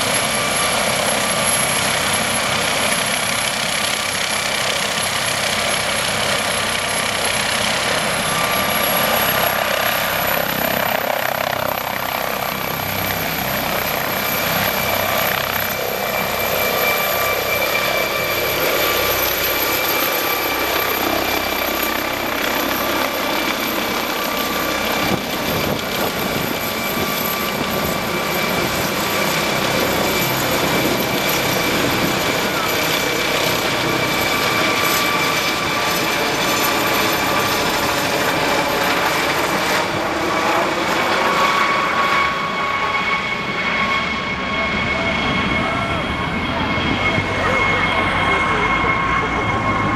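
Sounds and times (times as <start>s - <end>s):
helicopter rotor and engine: 0.0s - 49.9s
high turbine whine: 0.0s - 49.9s.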